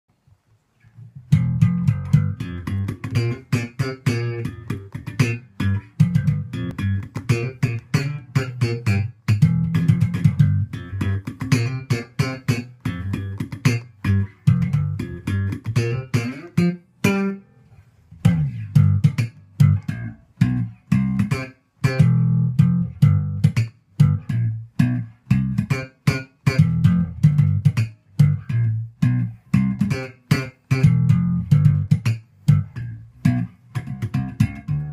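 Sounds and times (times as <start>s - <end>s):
bass guitar plucked notes: 1.2s - 17.4s, 18.1s - 34.9s.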